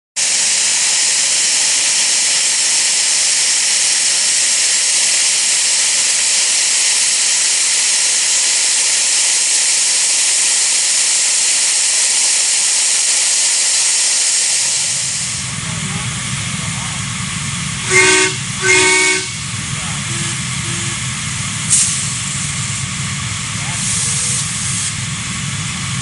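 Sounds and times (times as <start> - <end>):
steam hissing from locomotive: 0.2 - 26.0.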